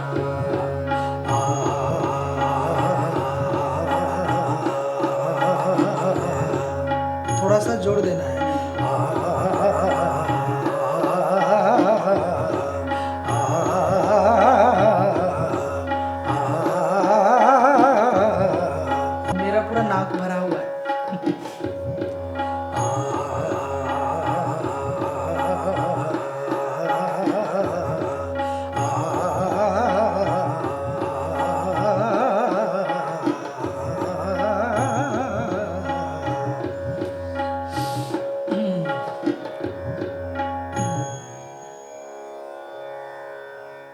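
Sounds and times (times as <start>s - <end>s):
tabla rhythm: 0.0s - 41.8s.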